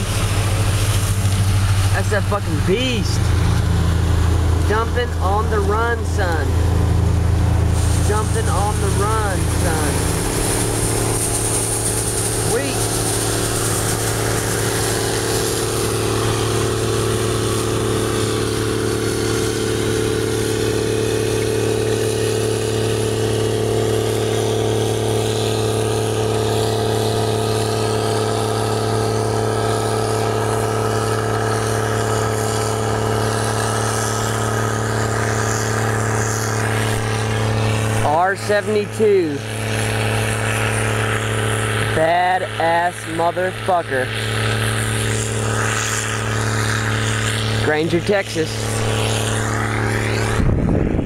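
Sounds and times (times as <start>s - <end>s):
engine drone: 0.0s - 51.0s.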